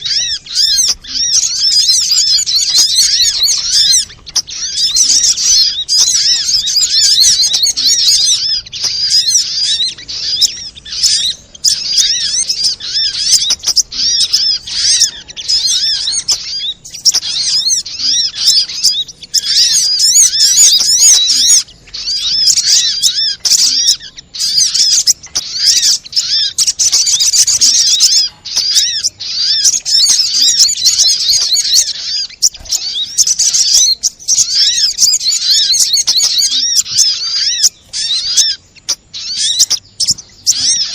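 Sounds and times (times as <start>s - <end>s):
sunbird chirping and twittering: 0.0s - 40.9s.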